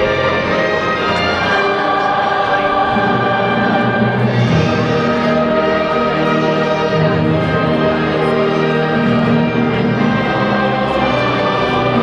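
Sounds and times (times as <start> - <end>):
orchestral music chords: 0.0 - 12.0.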